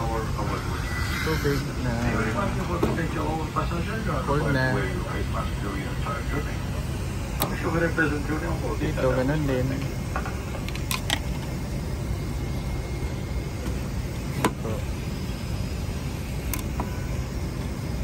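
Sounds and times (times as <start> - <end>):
airliner cabin drone: 0.0 - 18.0.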